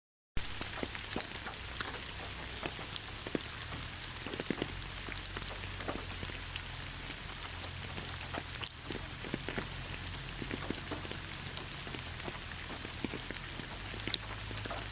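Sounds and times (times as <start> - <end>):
rain drops ticking on hard surface: 0.4 - 14.9.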